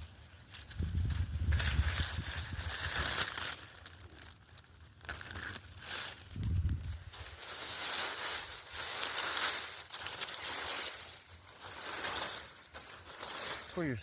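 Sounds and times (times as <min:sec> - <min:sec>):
footsteps crunching through dry leaves: 0:00.0 - 0:14.0.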